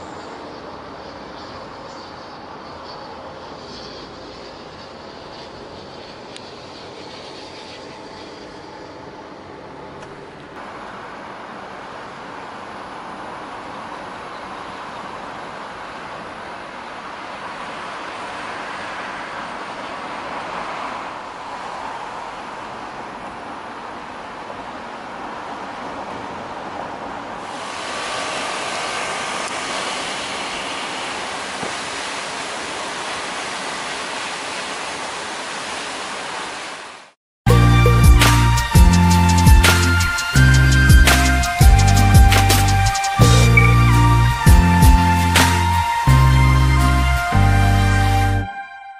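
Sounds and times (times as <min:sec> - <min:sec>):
car road and tyre noise: 0:00.0 - 0:48.9.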